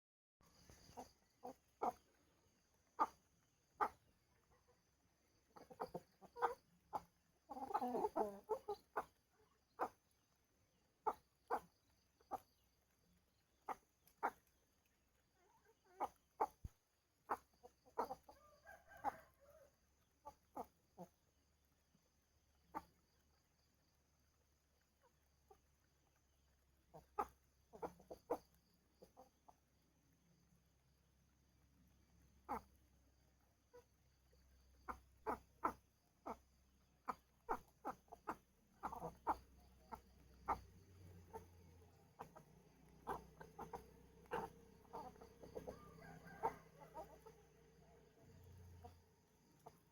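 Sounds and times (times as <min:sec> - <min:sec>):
chickens clucking: 0:00.5 - 0:10.1, 0:11.0 - 0:21.2, 0:22.6 - 0:23.2, 0:25.0 - 0:29.6, 0:32.5 - 0:32.7, 0:33.7 - 0:49.9.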